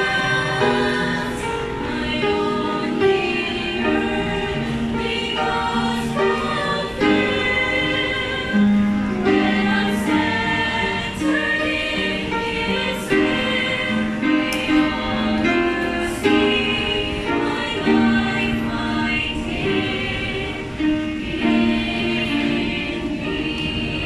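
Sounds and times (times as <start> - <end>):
upright piano: 0.0 - 24.0
youth choir singing a hymn: 0.0 - 24.0.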